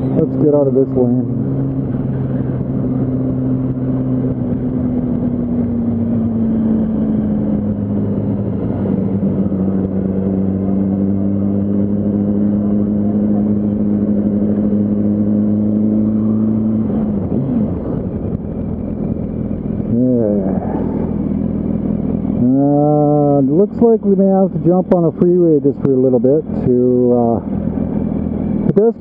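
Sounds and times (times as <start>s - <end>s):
motorcycle engine cruising: 0.0s - 29.0s
road and wind noise: 0.0s - 29.0s.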